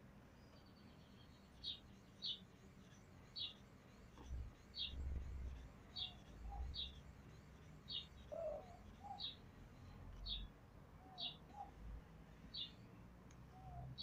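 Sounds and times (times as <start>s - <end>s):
bird chirping: 0.3s - 14.0s.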